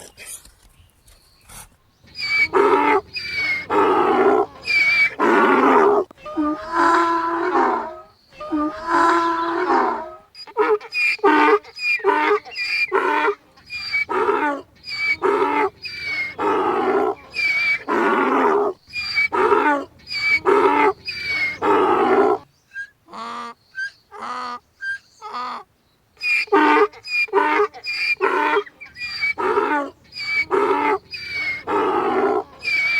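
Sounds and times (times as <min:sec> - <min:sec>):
donkey braying: 0:02.1 - 0:25.6, 0:26.2 - 0:32.9.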